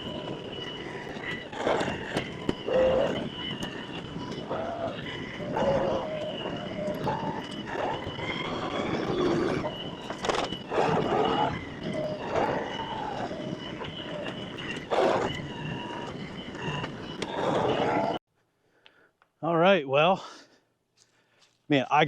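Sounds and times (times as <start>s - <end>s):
high whine: 0.0s - 18.2s.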